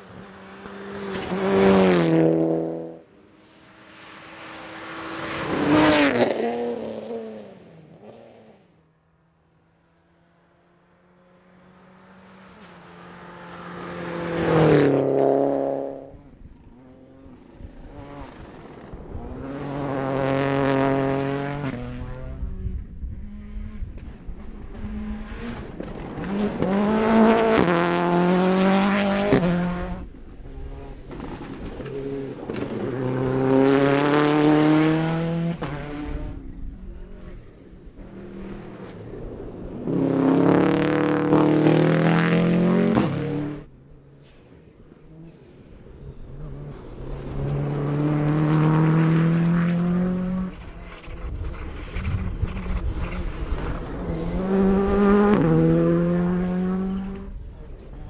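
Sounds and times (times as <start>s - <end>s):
rally cars passing at speed: 0.0s - 58.0s.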